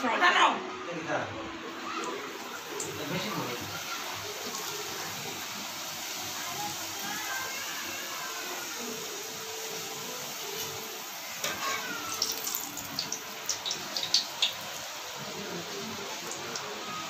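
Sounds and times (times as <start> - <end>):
hot oil sizzling: 1.6 - 17.0.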